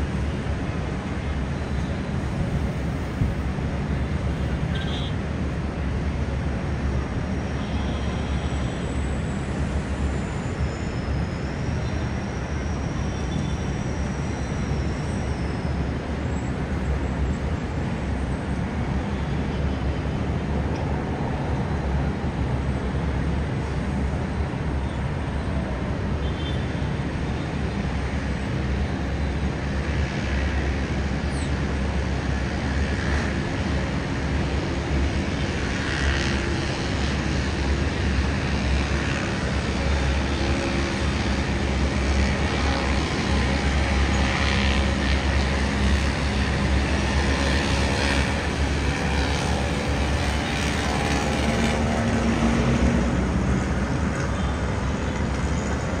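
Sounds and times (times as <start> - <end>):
heavy city traffic: 0.0 - 56.0.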